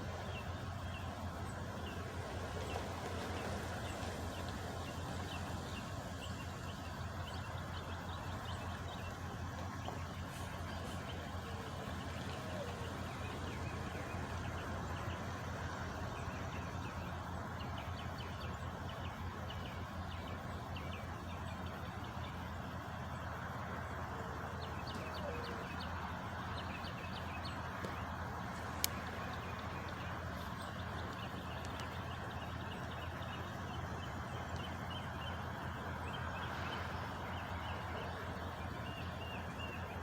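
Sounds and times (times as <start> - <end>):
small birds chirping: 0.0 - 40.0
truck engine idling: 0.0 - 40.0.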